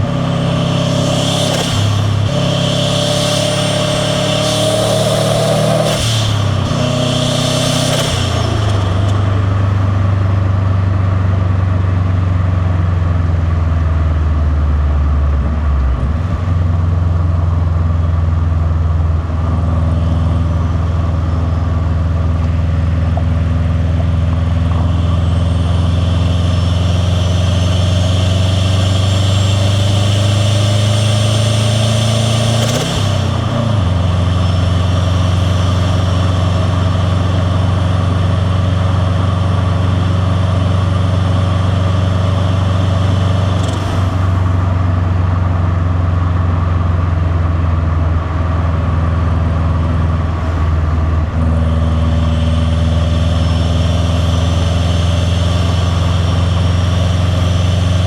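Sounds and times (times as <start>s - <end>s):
car engine deep exhaust rumble: 0.0s - 58.0s.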